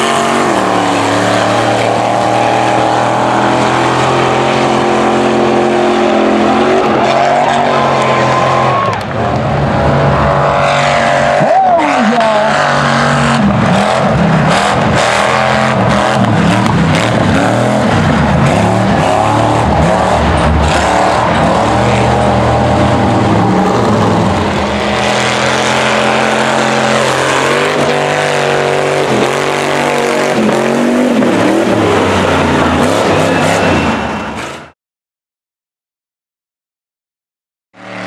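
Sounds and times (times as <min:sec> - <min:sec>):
truck engine revving: 0:00.0 - 0:34.8, 0:37.8 - 0:38.0.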